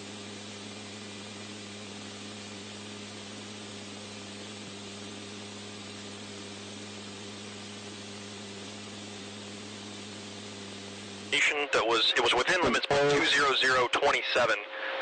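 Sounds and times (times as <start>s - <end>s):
low electrical hum: 0.0s - 13.4s
radio static hiss: 0.0s - 15.0s.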